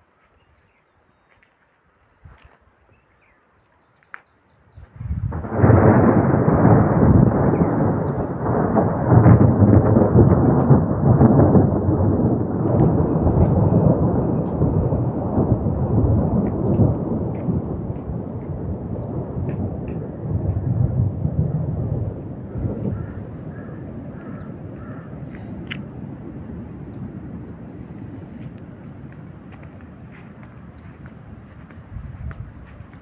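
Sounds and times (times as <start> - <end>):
thunder rolling rumble: 4.8 - 33.0.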